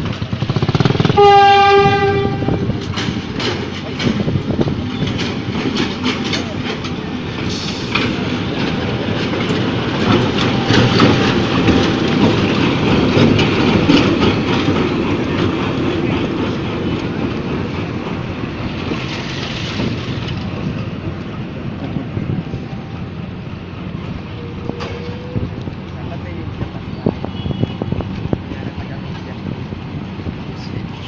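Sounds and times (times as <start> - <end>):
train rumble: 0.0 - 31.0
train wheels clacking over rail joints: 0.0 - 31.0.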